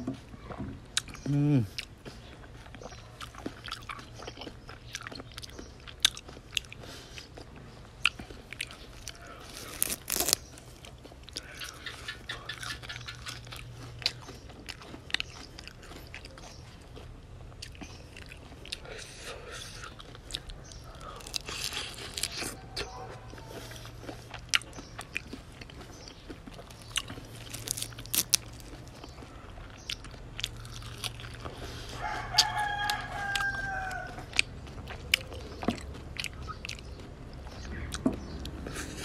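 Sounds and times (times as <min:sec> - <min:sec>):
chewing crunchy food: 0:00.0 - 0:39.0.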